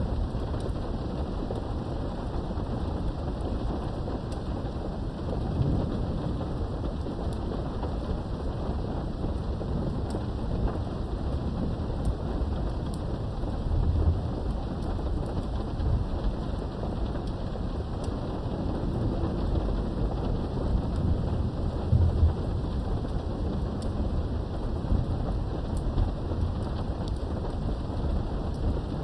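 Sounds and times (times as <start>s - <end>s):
low rolling thunder: 0.0s - 29.0s
rain behind a window: 0.0s - 29.0s.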